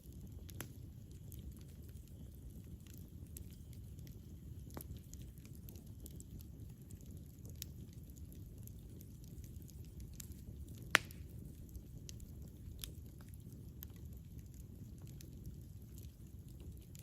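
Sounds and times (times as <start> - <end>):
campfire wood crackling: 0.0 - 17.0
low rumble of flames: 0.0 - 17.0.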